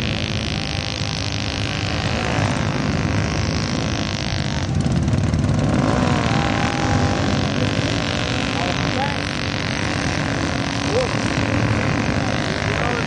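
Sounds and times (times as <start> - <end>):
atv engines running hard: 0.0 - 13.0.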